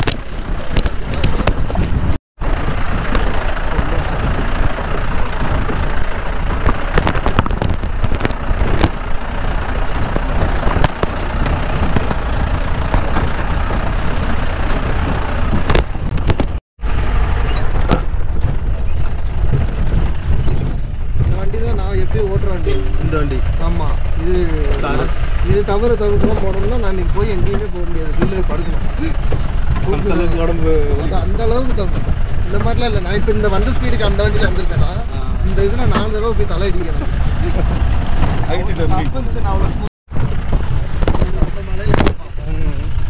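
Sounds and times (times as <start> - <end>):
body and suspension clattering: 0.0 - 16.6, 17.4 - 43.0
jeep engine and road rumble: 0.0 - 43.0.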